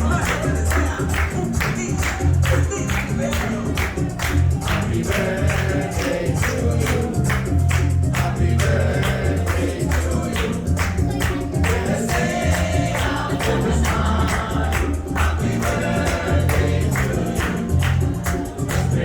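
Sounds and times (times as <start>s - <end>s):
music with singing: 0.0s - 19.0s
tambourine-like percussion: 0.0s - 19.0s.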